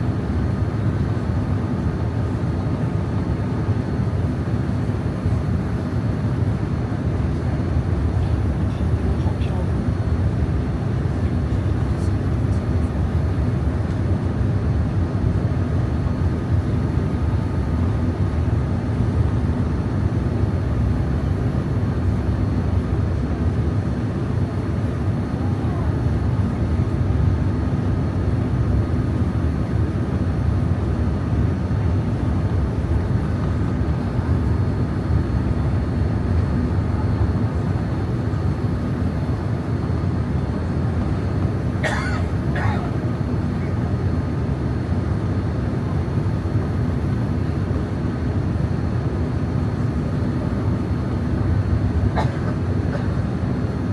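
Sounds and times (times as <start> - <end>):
airplane cabin engine hum: 0.0 - 53.9.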